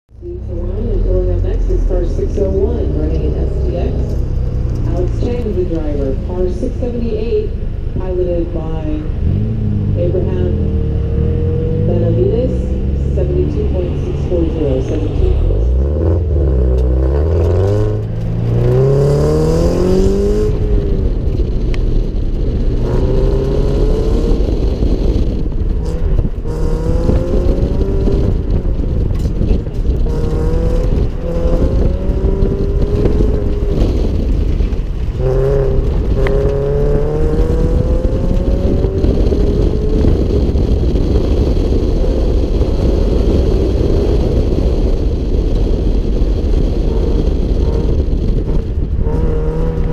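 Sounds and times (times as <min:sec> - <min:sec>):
car engine revving: 0:00.1 - 0:49.9.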